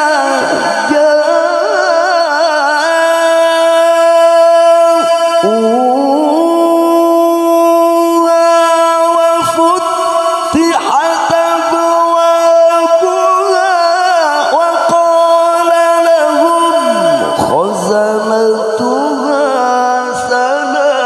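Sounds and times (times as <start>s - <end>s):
man reciting melodically into microphone: 0.0s - 21.0s.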